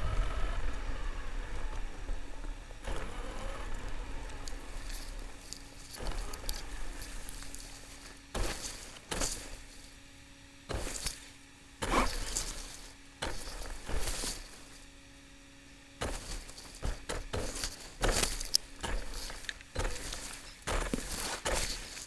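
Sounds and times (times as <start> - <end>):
faint steady hum: 0.0 - 22.0
grass rustling against toy car: 0.3 - 10.1, 10.7 - 15.0, 16.0 - 22.0.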